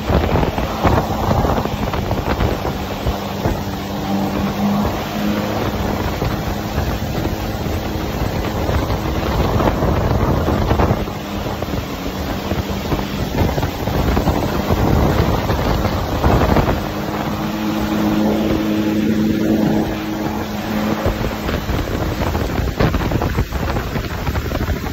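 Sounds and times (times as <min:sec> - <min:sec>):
jet ski engine hum: 0:00.0 - 0:24.9
rush of wake and spray: 0:00.0 - 0:24.9
wind buffeting microphone: 0:00.0 - 0:24.9.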